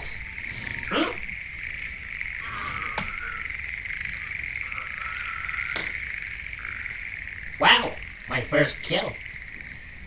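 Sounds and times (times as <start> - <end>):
high trilling jungle chorus: 0.0 - 10.0.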